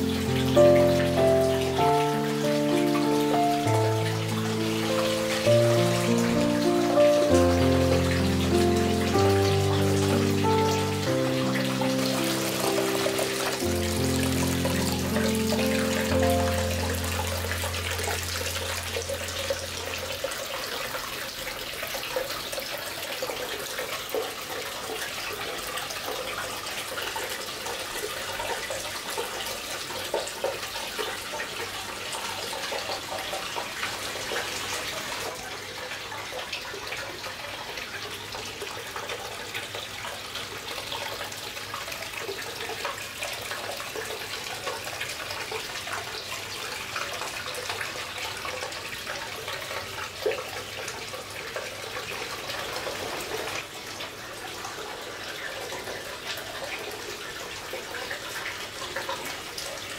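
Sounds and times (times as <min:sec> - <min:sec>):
water pouring into stone bath: 0:00.0 - 0:59.9.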